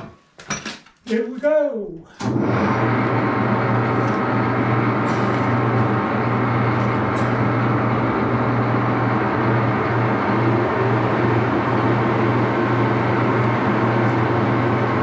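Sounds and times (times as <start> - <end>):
lathe running: 2.2 - 15.0.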